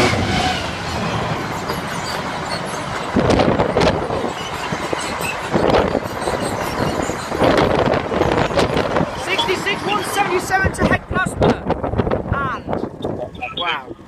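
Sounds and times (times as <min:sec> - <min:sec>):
diesel locomotive passing: 0:00.0 - 0:12.2
freight wagons rumbling past: 0:00.0 - 0:14.0.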